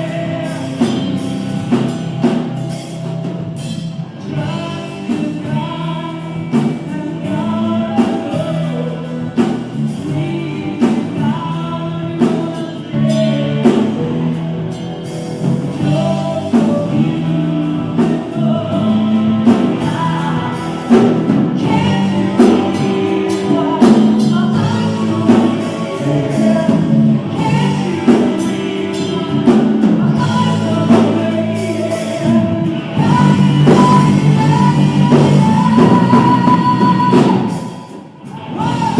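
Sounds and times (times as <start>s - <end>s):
drums: 0.0s - 38.9s
lead vocal: 0.0s - 38.9s
live pop-rock band: 0.0s - 38.9s.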